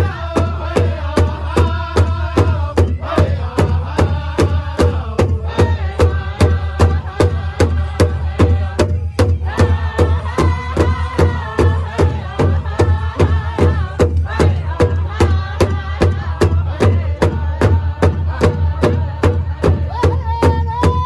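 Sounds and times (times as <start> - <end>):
group singing together: 0.0 - 20.7
large drum steady beat: 0.0 - 21.0.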